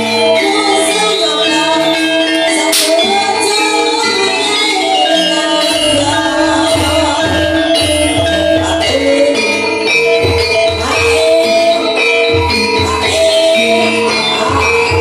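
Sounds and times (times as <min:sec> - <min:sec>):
gamelan music: 0:00.0 - 0:15.0
person singing: 0:00.0 - 0:15.0.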